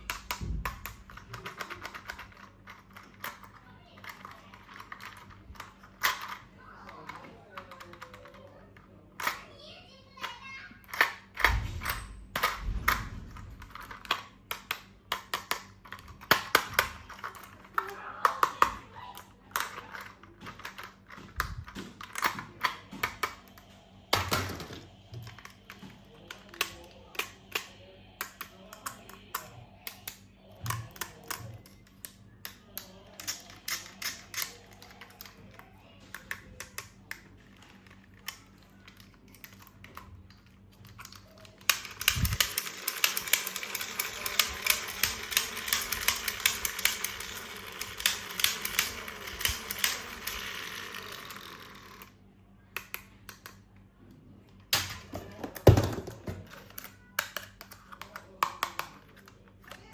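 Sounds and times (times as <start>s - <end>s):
plastic toy parts clicking: 0.0s - 53.8s, 54.6s - 59.9s.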